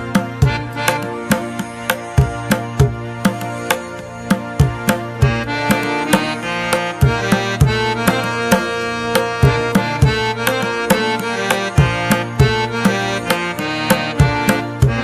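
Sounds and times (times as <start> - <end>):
drum strokes and low thumps: 0.0 - 15.0
instrumental music: 0.0 - 15.0.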